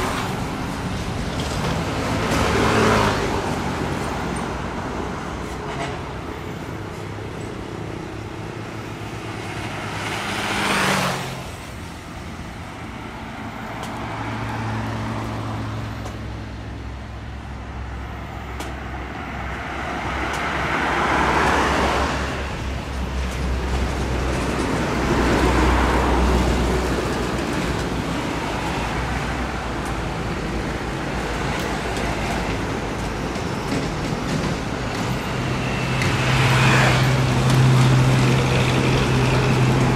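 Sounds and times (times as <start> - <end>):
heavy road traffic: 0.0 - 39.9
truck engines running: 0.0 - 39.9.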